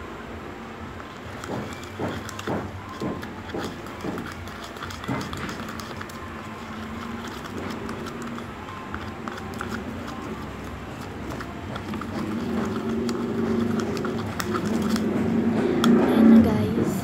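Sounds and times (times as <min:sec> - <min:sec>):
low steady hum: 0:00.0 - 0:17.0
plastic spoon stirring in cup: 0:01.0 - 0:17.0.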